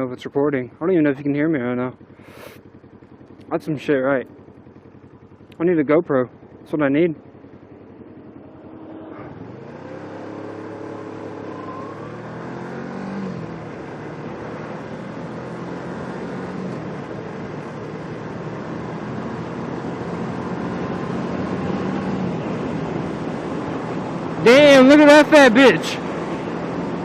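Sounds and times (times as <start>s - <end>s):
wind and road noise: 0.0s - 5.6s, 6.2s - 27.0s
motorcycle engine accelerating: 0.0s - 27.0s.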